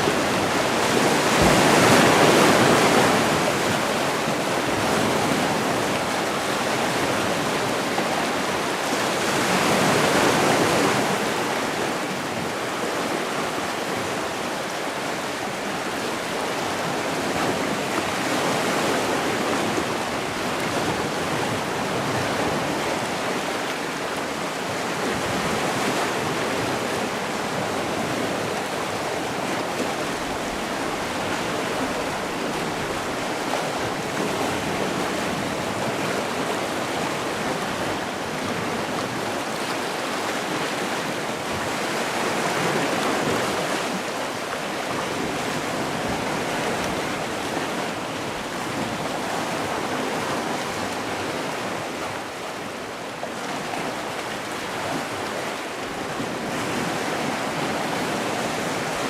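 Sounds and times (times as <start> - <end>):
waves washing onto shore: 0.0 - 59.0.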